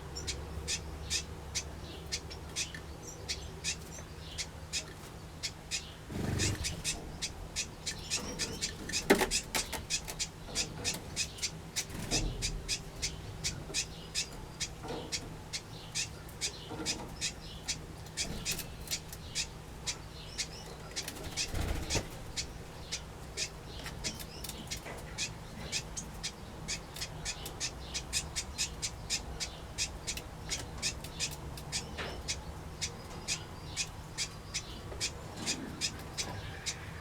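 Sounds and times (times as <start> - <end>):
finches chirping: 0.0 - 37.0.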